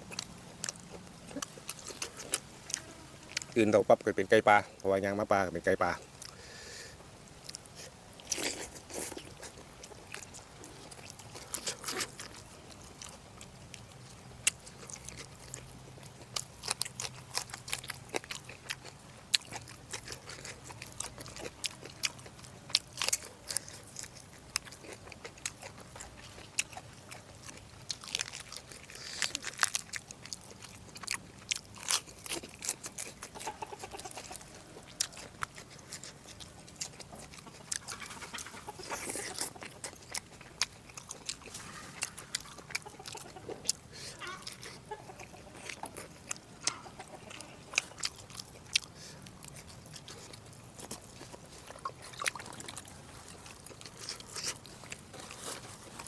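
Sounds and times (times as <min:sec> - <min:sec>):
person chewing food: 0:00.0 - 0:03.6, 0:05.8 - 0:56.0.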